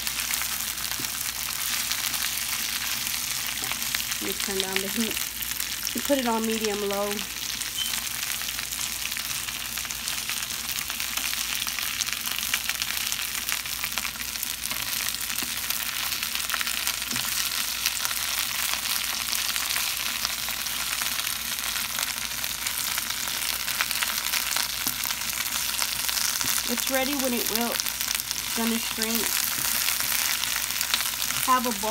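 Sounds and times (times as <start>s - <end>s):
spinach sizzling in a frying pan: 0.0s - 31.9s.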